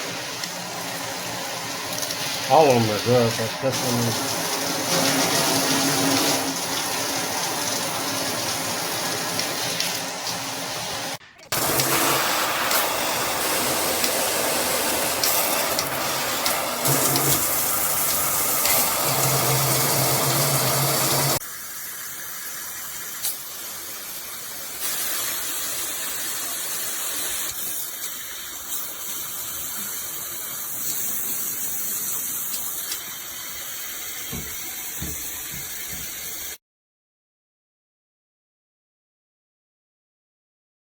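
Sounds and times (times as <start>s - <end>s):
shower spraying water: 0.0s - 36.6s.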